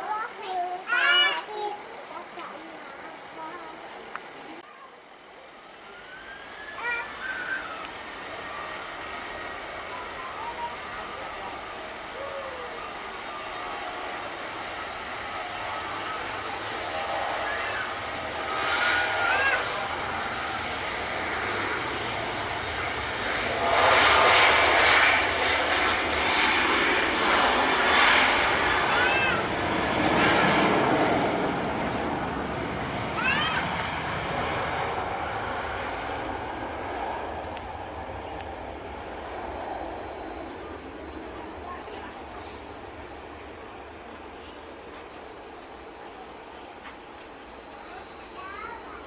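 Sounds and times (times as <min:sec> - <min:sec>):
jet engine whine: 0:00.0 - 0:49.0.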